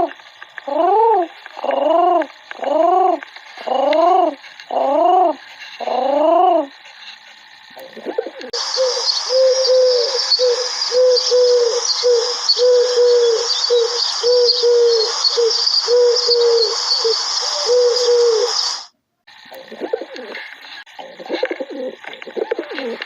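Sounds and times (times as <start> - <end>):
steady high-pitched hiss: 0.0 - 23.0
pigeons cooing: 0.7 - 6.7, 7.8 - 18.8, 19.6 - 23.0.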